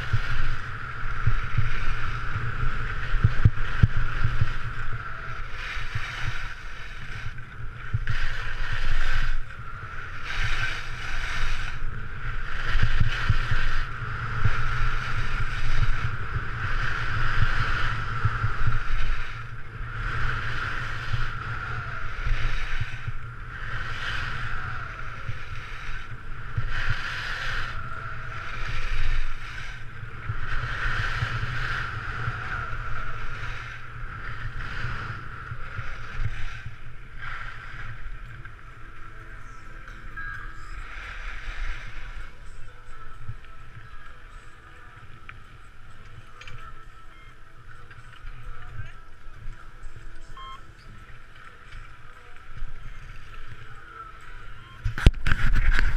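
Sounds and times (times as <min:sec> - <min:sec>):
skis scraping on snow: 0:00.0 - 0:50.3, 0:50.9 - 0:55.9
wind rumble on microphone: 0:00.0 - 0:55.9.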